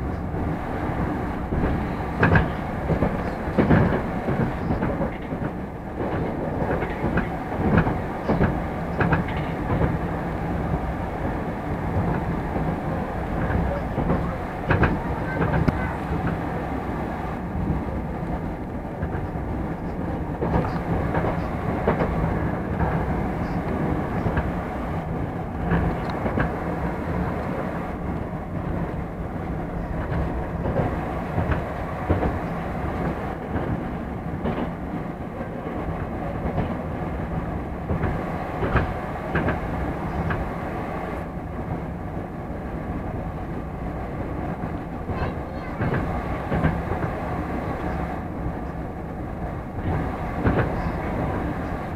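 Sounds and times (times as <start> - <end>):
train rumble and hum: 0.0 - 51.9
wheels clattering on track: 1.0 - 41.4, 49.6 - 51.9.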